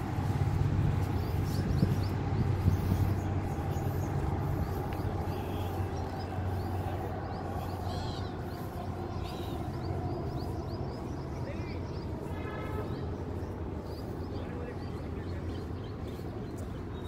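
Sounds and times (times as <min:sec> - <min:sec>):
birds chirping: 0:00.0 - 0:17.0
low rumble of city traffic: 0:00.0 - 0:17.0.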